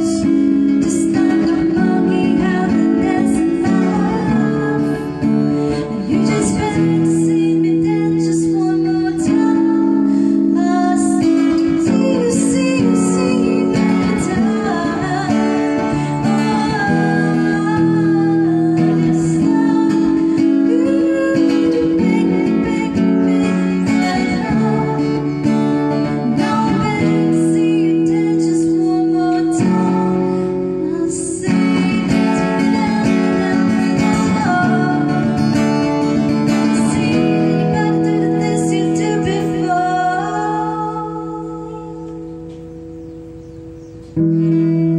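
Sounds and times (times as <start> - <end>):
woman singing: 0.0 - 43.0
acoustic guitar strumming: 0.0 - 44.9.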